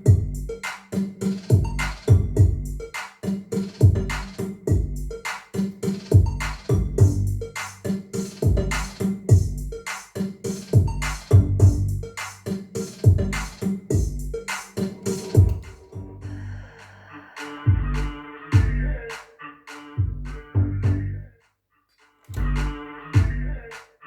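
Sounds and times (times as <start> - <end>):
drum machine kick beat: 0.0 - 15.9, 17.7 - 18.8, 20.0 - 21.1, 22.3 - 23.5
electronic dance music: 0.0 - 16.0, 16.8 - 21.1, 22.4 - 23.9.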